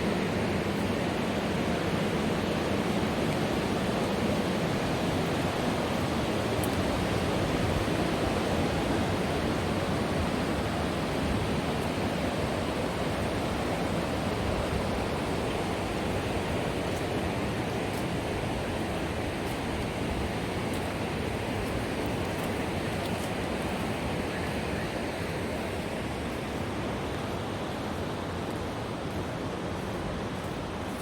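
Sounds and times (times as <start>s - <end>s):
rushing river water: 0.0s - 31.0s.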